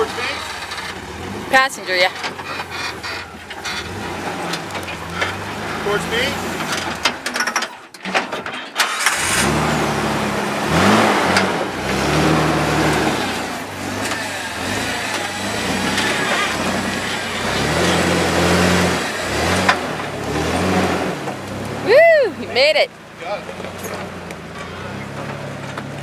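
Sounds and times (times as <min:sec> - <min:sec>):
engine revving under load: 0:00.0 - 0:07.5, 0:08.8 - 0:26.0.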